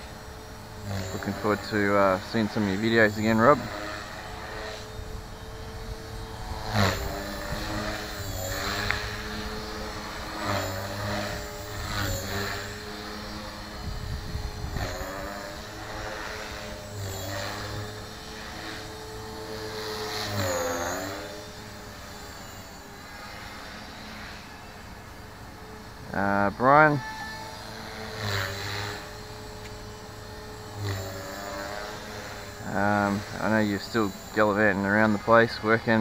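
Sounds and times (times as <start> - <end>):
rc helicopter motor and rotor whine: 0.0 - 36.0.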